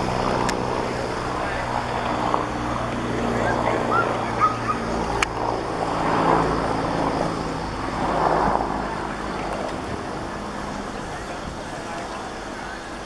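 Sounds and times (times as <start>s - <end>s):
engines humming: 0.0s - 13.0s.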